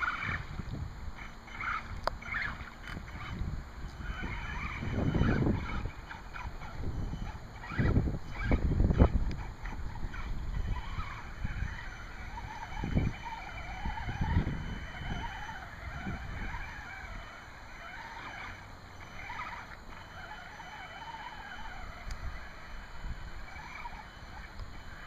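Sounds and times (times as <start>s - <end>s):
toy truck motor whining: 0.0s - 25.0s.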